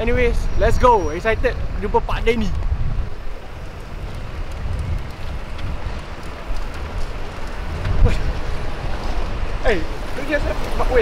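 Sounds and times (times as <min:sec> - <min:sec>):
traffic rumble and hiss: 0:00.0 - 0:11.0.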